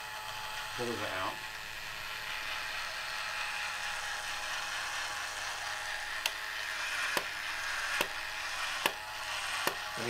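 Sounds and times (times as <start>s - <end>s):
toy motor whirring: 0.0s - 10.0s.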